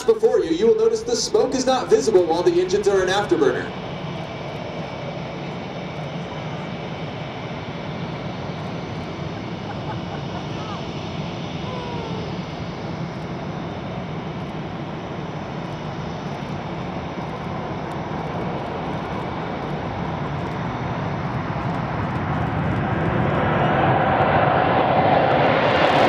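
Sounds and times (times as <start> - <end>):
jet roar: 0.0 - 26.0.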